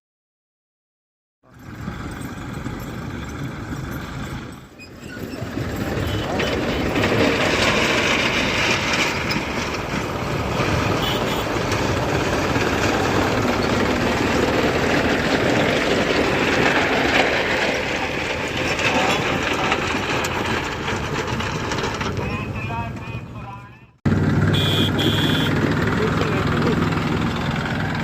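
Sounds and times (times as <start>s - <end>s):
tractor diesel engine running: 1.4s - 28.0s.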